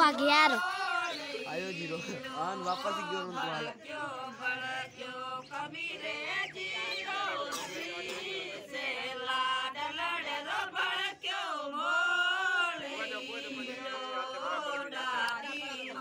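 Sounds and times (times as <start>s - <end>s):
voices chanting a melody: 0.0s - 16.0s.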